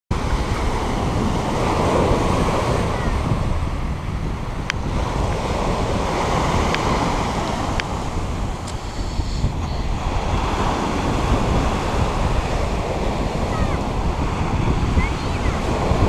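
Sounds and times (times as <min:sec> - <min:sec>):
wind buffeting microphone: 0:00.1 - 0:16.0
waves washing on pebble beach: 0:00.2 - 0:16.0.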